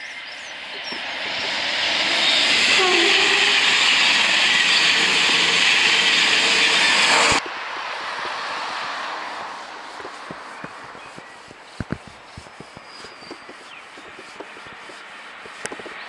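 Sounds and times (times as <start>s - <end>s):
train wheels rushing on rail: 0.0s - 16.0s.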